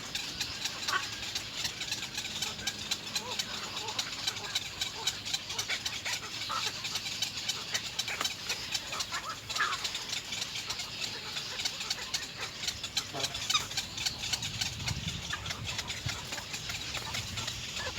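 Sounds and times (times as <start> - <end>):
bird chicks clicking chatter: 0.0 - 17.9
chicks squeaking: 0.1 - 17.9.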